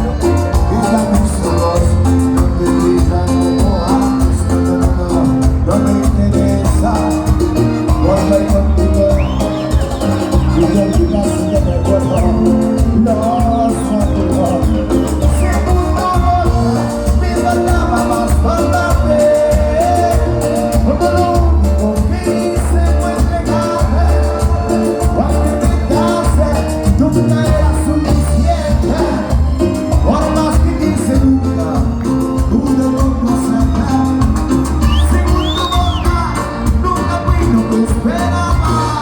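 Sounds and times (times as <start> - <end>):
band playing live: 0.0 - 39.0
person singing: 0.0 - 39.0.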